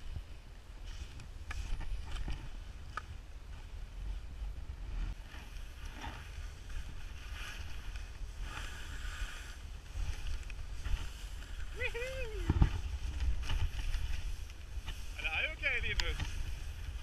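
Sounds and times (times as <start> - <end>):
wind rumble on microphone: 0.0 - 17.0
skis scraping through snow: 0.8 - 17.0.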